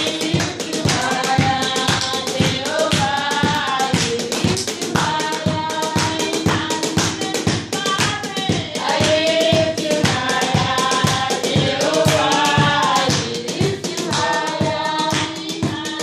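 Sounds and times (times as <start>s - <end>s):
group singing a worship song: 0.0s - 16.0s
hand claps: 0.0s - 16.0s.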